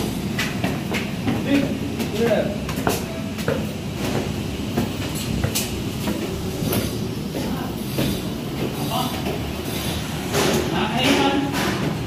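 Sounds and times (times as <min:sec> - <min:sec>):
footsteps on metal stairs: 0:00.0 - 0:12.0.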